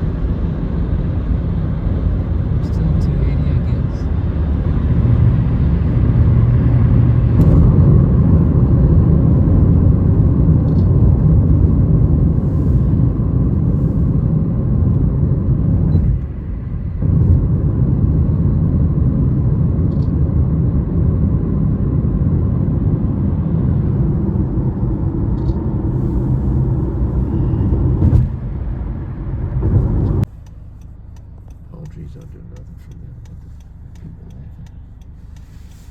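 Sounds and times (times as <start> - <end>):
car rumbling on the move: 0.0 - 35.9.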